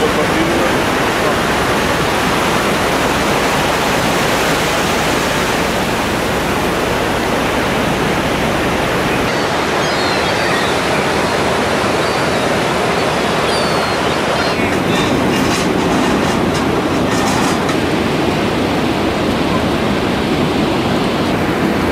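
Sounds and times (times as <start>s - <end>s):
ocean surf on a beach: 0.0s - 21.9s.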